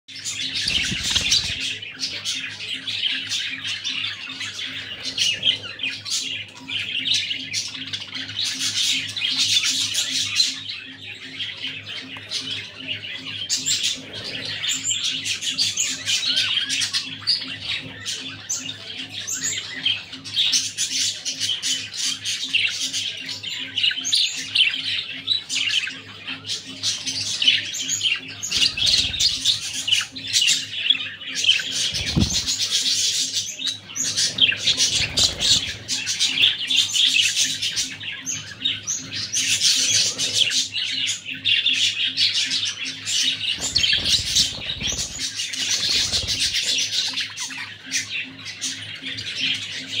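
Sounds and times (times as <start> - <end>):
budgerigars chattering: 0.1 - 50.0.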